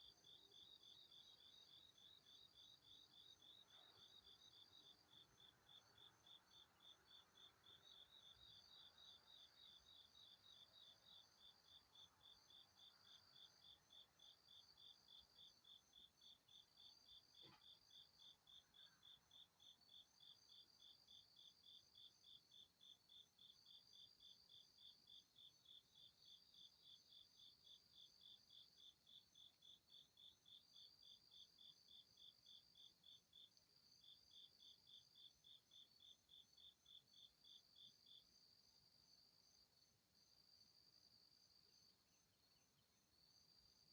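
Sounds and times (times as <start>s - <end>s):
insect chirping steadily: 0.0s - 43.9s.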